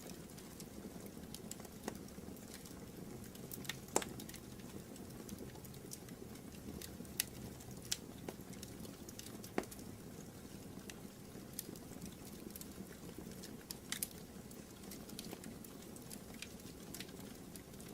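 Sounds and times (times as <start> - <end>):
fire crackling and popping: 0.0 - 17.9.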